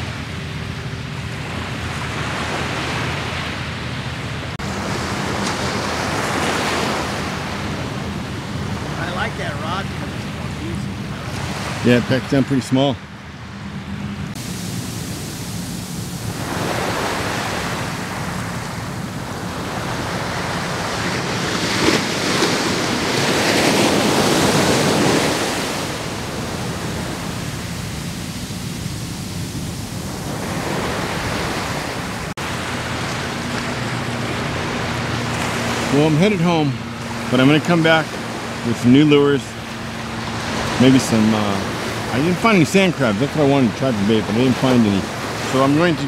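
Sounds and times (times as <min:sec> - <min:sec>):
waves breaking on a sandy beach: 0:00.0 - 0:46.0.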